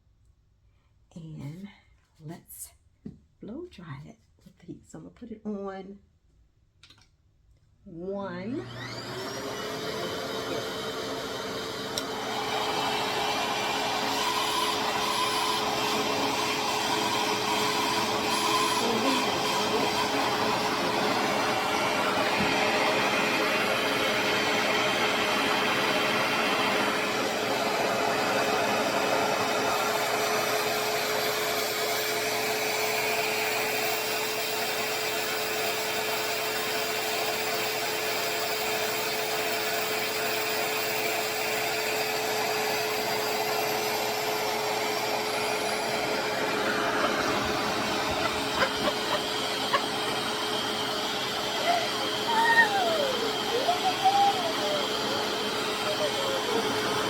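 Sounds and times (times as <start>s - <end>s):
hair dryer airflow rush and hum: 8.2s - 57.0s.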